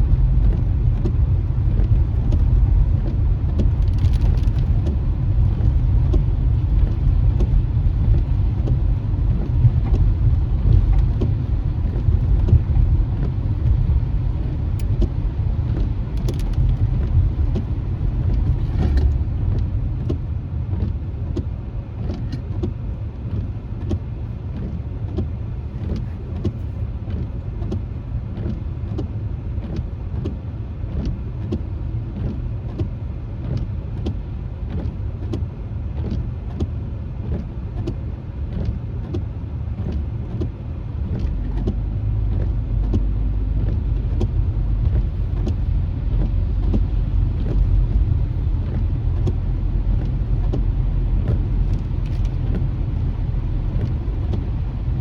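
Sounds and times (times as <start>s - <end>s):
raindrops ticking on windshield: 0.0s - 55.0s
tyre and engine rumble: 0.0s - 55.0s.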